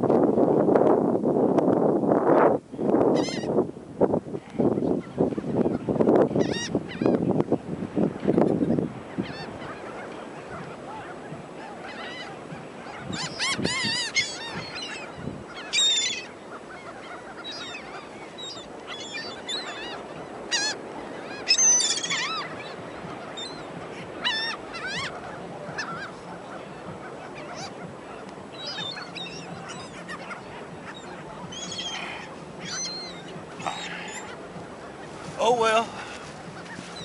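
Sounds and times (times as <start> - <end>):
gulls squawking: 3.2 - 3.5, 4.8 - 7.3, 8.6 - 37.0.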